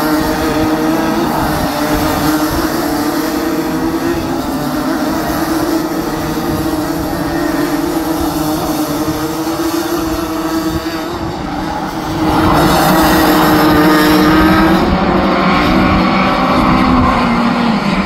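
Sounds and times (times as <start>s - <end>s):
kart engines racing: 0.0s - 18.0s.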